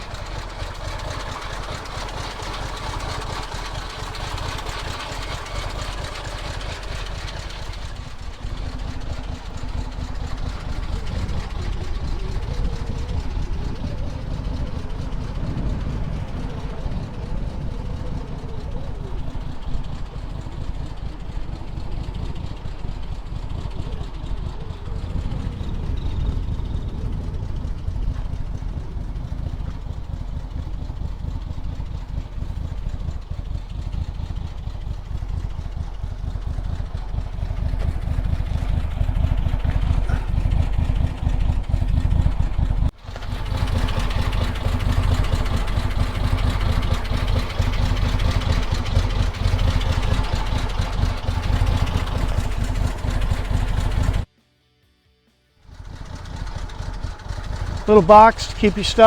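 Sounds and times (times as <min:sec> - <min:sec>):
truck engine idling: 0:00.0 - 0:54.3, 0:55.7 - 0:59.0.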